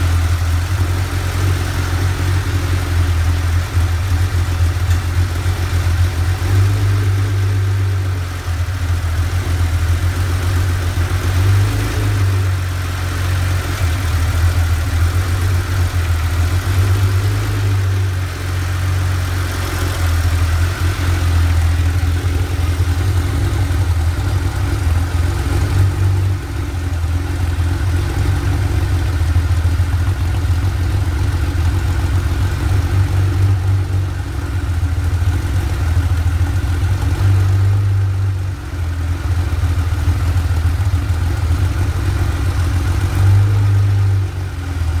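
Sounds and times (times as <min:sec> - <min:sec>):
car engine running on test stand: 0:00.0 - 0:45.0.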